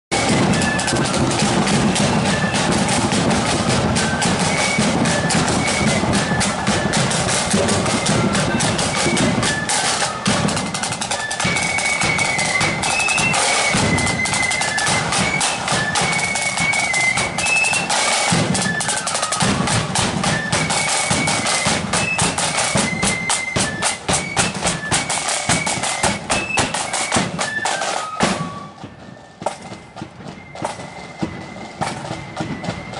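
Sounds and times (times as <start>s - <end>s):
flutes playing melody: 0.1s - 32.9s
snare drums: 0.1s - 32.9s.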